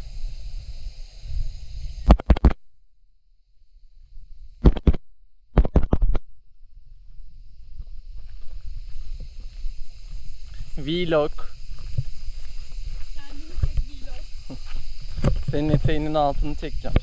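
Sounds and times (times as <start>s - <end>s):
wind rumbling on microphone: 0.0s - 2.5s, 5.6s - 17.0s.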